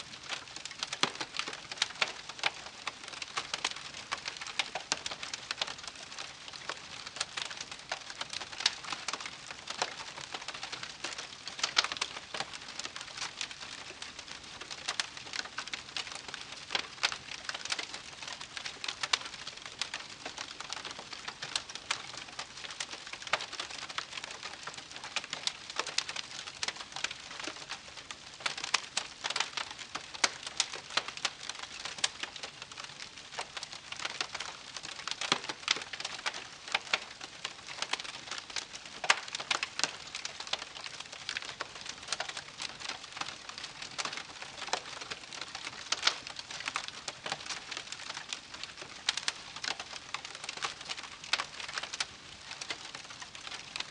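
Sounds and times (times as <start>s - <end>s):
campfire crackling and popping: 0.1s - 53.9s.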